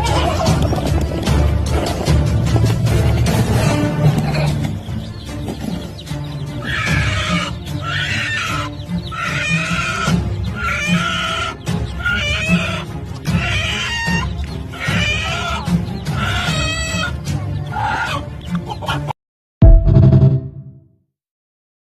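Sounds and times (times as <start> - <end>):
chicken calling: 0.0 - 19.2
background music: 0.0 - 20.8.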